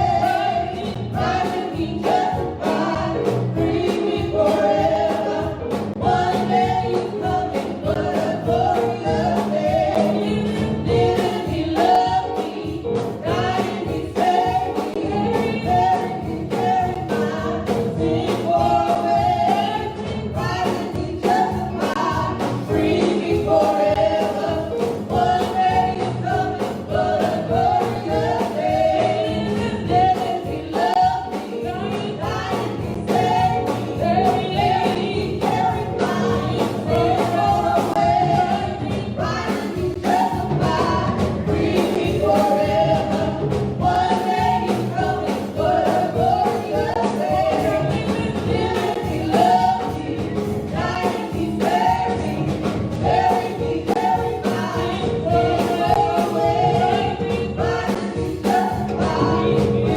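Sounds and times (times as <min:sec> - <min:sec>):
band with steady beat: 0:00.0 - 0:59.9
choir singing: 0:00.0 - 0:59.9.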